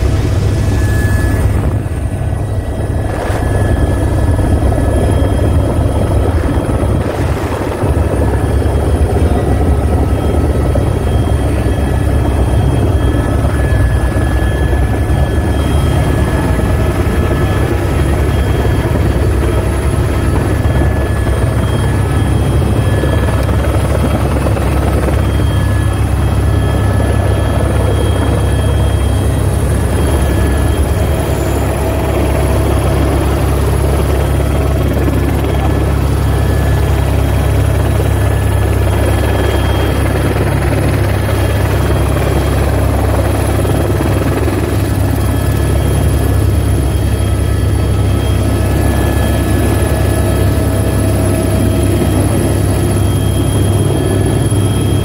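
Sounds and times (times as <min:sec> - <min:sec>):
helicopter rotor drone: 0:00.0 - 0:55.0
high engine whine: 0:00.0 - 0:55.0.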